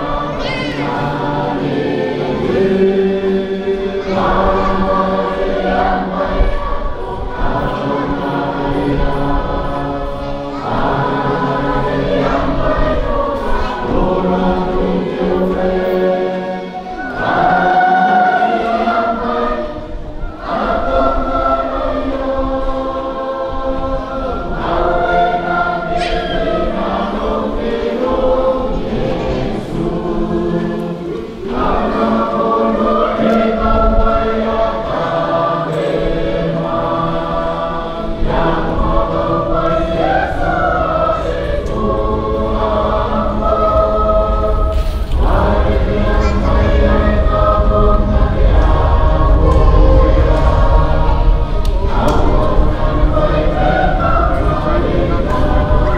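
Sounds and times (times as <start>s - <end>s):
choir singing in harmony: 0.0s - 55.9s.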